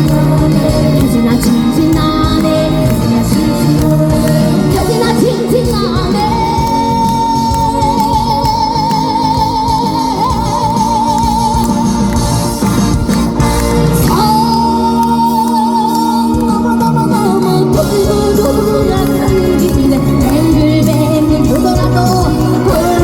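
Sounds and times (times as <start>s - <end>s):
woman singing with vibrato: 0.0s - 12.4s, 13.9s - 23.0s
band playing: 0.0s - 23.0s.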